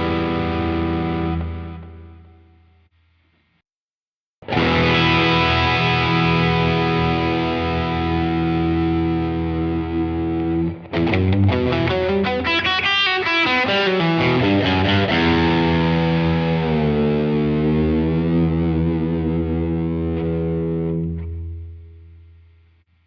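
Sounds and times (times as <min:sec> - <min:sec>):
overdriven electric guitar with delay: 0:00.0 - 0:02.4, 0:04.4 - 0:22.0.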